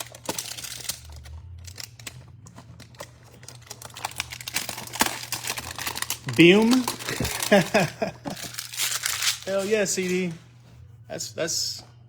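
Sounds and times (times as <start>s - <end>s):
packaging crinkling: 0.0s - 10.4s
cards being handled: 0.0s - 10.6s.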